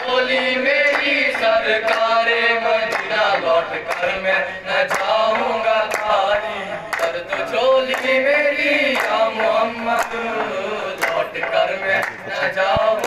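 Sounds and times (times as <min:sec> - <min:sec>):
hand clapping: 0:00.0 - 0:13.0
male voices singing: 0:00.0 - 0:13.0.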